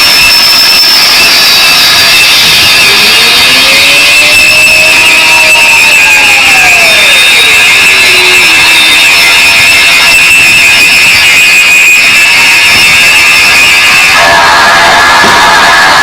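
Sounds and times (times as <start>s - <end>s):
harsh noise music: 0.0s - 16.0s
high whines: 0.0s - 16.0s.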